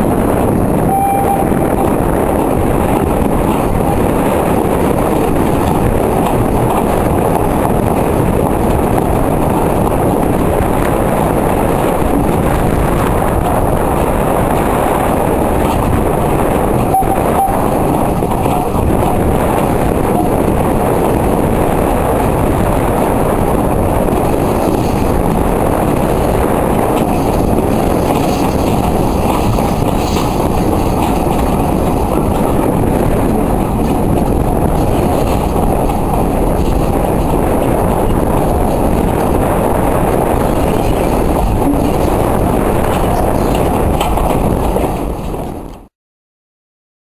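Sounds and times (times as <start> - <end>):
railway carriage rumbling on track: 0.0 - 45.9
wind buffeting microphone: 0.0 - 45.9.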